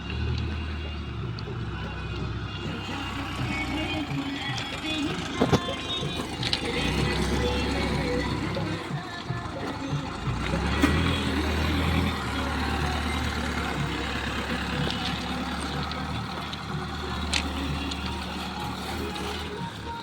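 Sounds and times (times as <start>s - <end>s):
faint clatter: 0.0s - 20.0s
heavy diesel engine rumbling: 0.0s - 20.0s.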